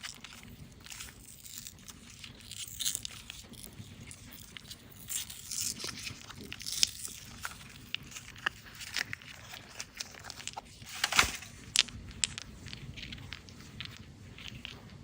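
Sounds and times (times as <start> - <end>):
candy wrappers crinkling: 0.0 - 15.0.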